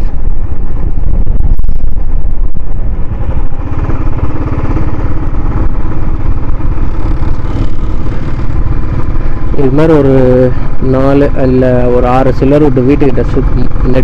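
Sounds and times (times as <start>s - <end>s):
motorcycle engine: 0.0s - 14.0s
wind rumble on microphone: 0.0s - 14.0s.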